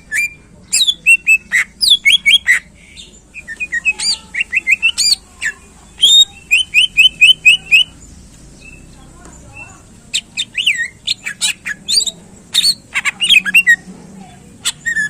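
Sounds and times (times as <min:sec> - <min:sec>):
bird singing whistled chirps: 0:00.0 - 0:08.0, 0:08.6 - 0:13.9, 0:14.6 - 0:15.0.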